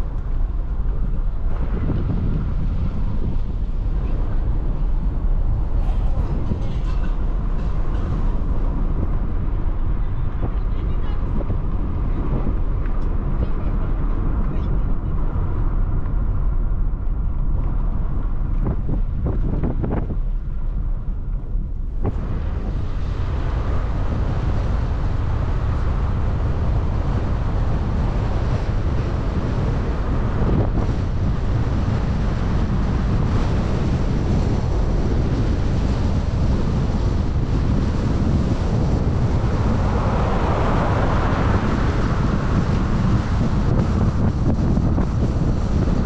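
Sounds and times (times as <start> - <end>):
vehicle road noise: 0.0 - 46.0
wind rumble on microphone: 0.0 - 46.0.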